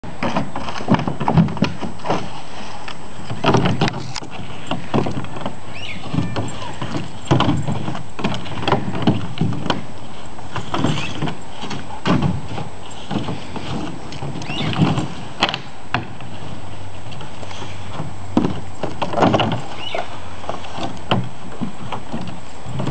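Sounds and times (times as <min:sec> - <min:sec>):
plastic pool knocks and scrapes: 0:00.1 - 0:09.9, 0:10.5 - 0:22.9.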